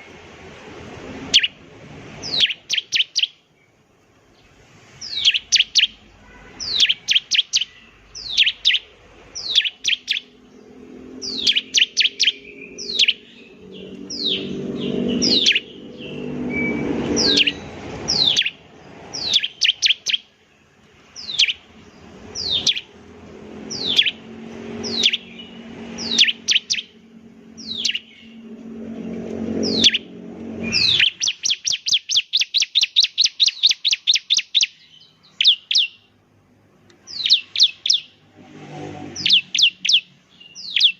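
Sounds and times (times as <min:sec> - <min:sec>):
bird singing high whistled notes: 0:01.2 - 0:01.6, 0:02.2 - 0:03.4, 0:05.0 - 0:20.4, 0:21.2 - 0:23.0, 0:23.6 - 0:36.1, 0:37.1 - 0:40.9.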